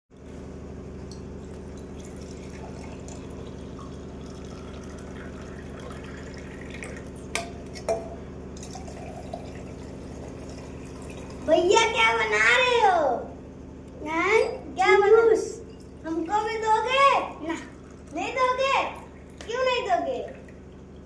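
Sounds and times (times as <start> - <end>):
liquid trickling: 0.2 - 12.0, 15.5 - 21.0
machine hum: 0.2 - 21.0.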